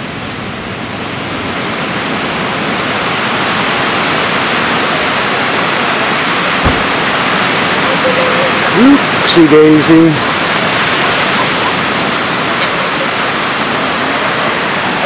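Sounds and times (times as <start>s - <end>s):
ocean waves washing on beach: 0.0s - 15.0s.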